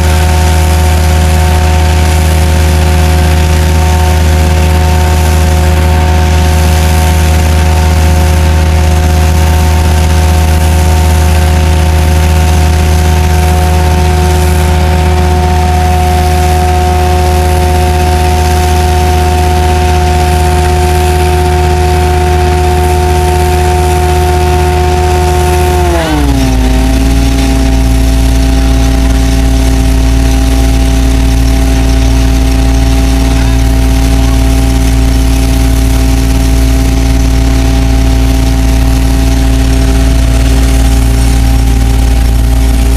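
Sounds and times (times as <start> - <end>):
vacuum truck machine drone: 0.0 - 42.9.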